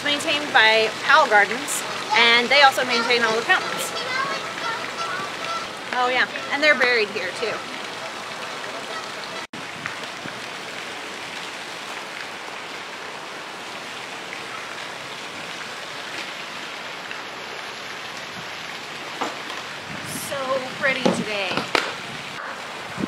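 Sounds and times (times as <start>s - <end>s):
fountain water splashing: 0.0s - 23.0s.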